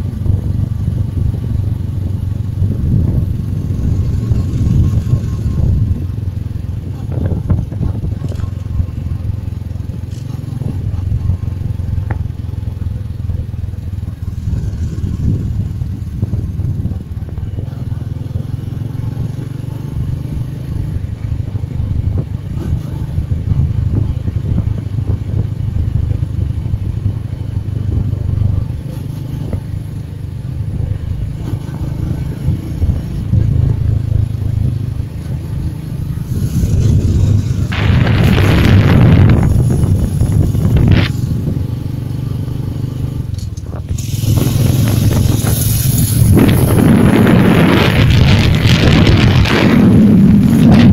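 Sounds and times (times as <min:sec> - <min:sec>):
motorcycle engine and road rumble: 0:00.0 - 0:50.9.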